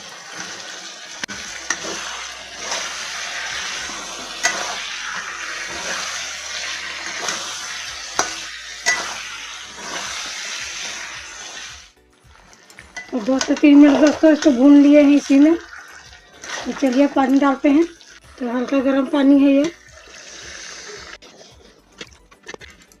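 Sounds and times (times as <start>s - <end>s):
chicken sizzling in oil: 0.0s - 21.8s.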